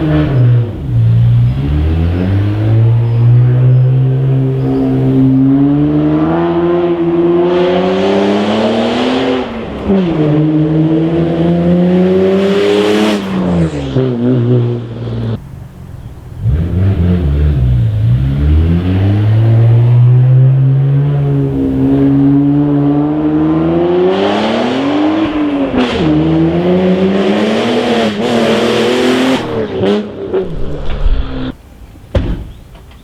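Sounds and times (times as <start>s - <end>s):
car exhaust accelerating hard: 0.0s - 31.9s.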